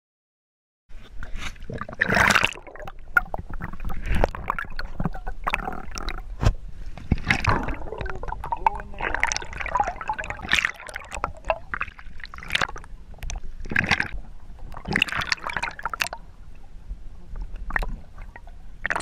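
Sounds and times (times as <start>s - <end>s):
water splashing and gurgling: 1.0s - 19.0s.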